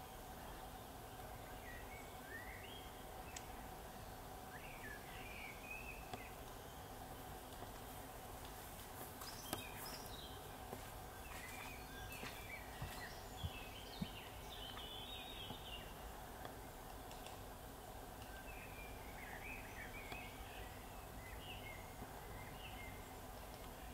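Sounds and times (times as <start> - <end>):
songbirds chirping: 0.0 - 23.9
steady background hiss: 0.0 - 23.9.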